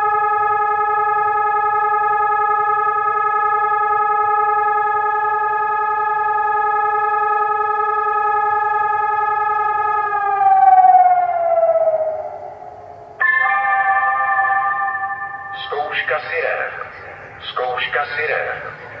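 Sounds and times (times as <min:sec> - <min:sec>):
electronic siren steady tone: 0:00.0 - 0:19.0.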